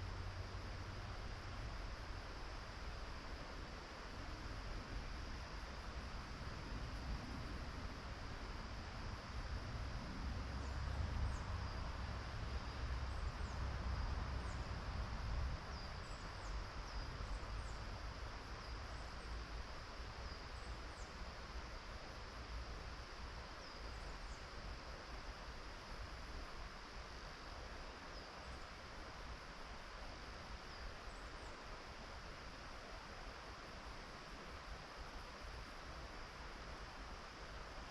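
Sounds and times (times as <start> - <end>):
insects trilling drone: 0.0 - 37.9.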